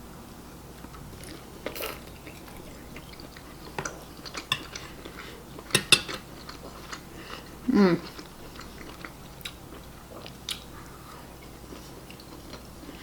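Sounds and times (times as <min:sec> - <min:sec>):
chewing with wet mouth smacks: 0:00.8 - 0:13.0.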